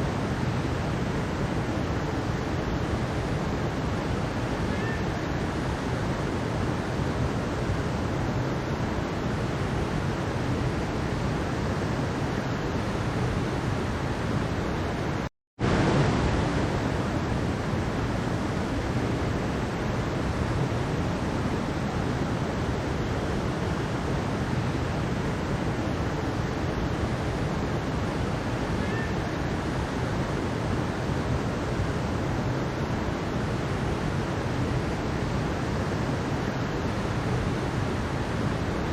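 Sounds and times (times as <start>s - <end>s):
stream water rushing over rocks: 0.0s - 38.9s.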